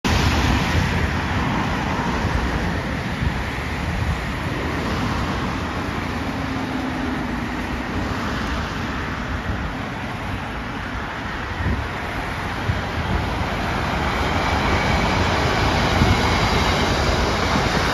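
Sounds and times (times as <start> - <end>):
road traffic passing: 0.1 - 17.9.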